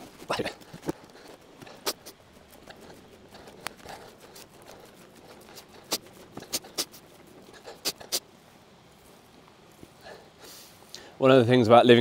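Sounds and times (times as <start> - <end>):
footsteps through long grass: 0.0 - 10.9.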